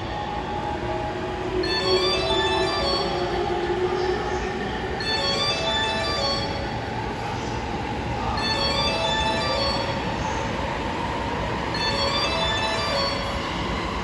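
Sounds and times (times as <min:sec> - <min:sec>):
electric train running: 0:00.0 - 0:14.0.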